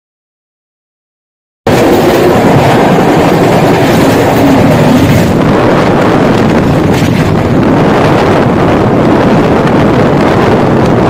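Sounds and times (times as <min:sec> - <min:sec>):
train running at speed: 0:01.7 - 0:11.0.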